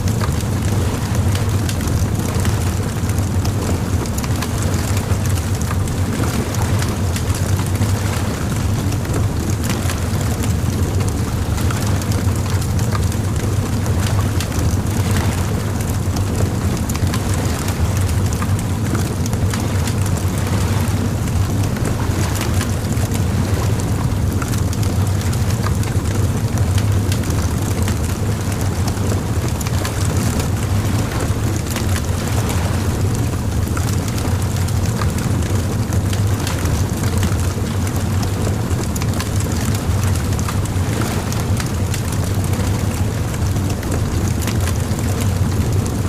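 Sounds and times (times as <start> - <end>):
bonfire crackling and popping: 0.0 - 46.0.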